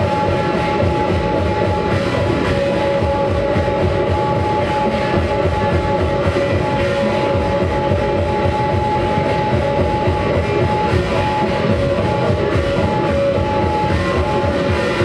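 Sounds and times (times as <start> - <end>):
guitar sustained notes: 0.0 - 15.0
live rock band playing: 0.0 - 15.0.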